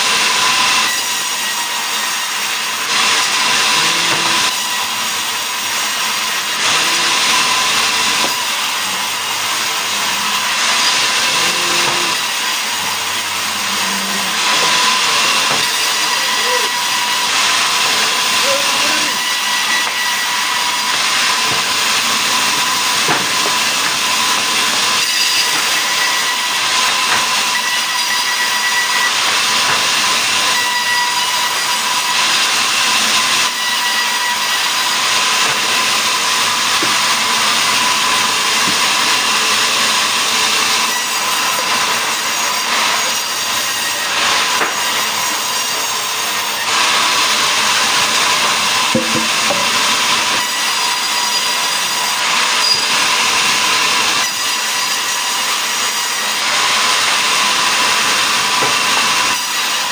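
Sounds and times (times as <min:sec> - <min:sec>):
sawmill saw cutting wood: 0:00.0 - 0:59.9.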